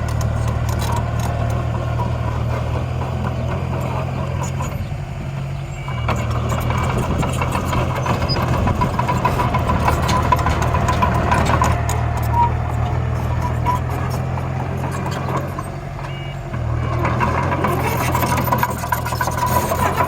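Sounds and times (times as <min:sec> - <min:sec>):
thin engine whine: 0:00.0 - 0:20.0
vehicle engine idling: 0:00.0 - 0:20.0.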